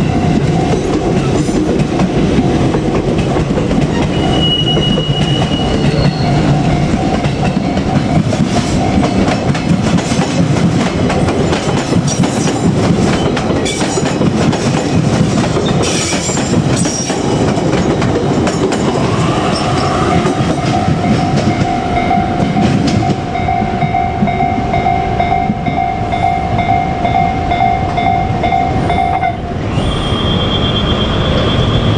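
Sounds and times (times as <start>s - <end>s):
train wheels on rails: 0.0s - 31.9s.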